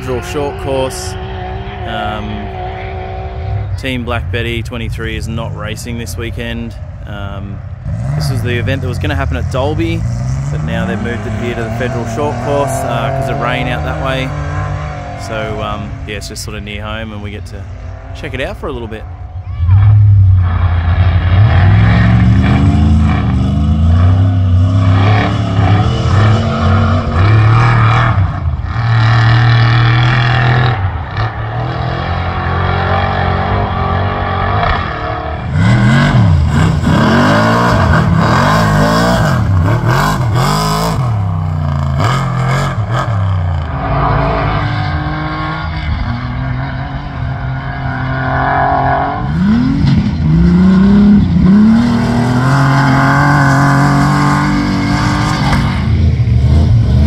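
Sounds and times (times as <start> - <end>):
race vehicle engines revving: 0.0 - 57.0.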